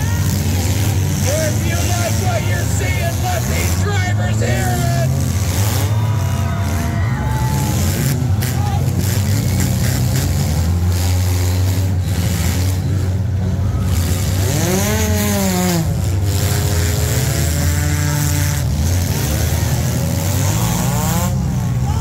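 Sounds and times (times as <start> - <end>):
car engine revving: 0.0 - 22.0
car engines running hard: 0.0 - 22.0.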